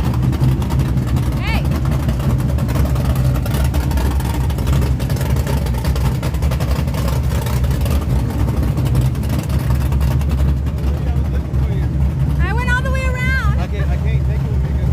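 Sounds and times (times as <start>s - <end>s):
truck engines rumbling: 0.0s - 14.9s.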